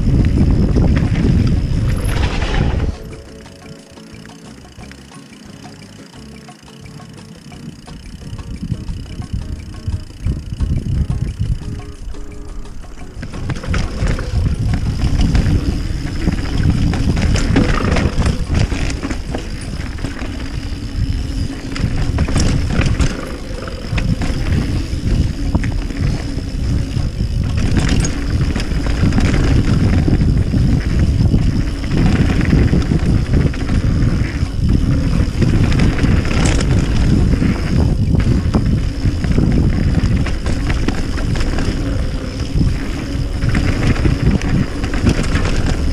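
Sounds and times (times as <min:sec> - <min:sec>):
wind on microphone: 0:00.0 - 0:03.4, 0:08.1 - 0:45.9
bike rattling over bumps: 0:00.0 - 0:45.9
tyres on dirt: 0:00.0 - 0:45.9.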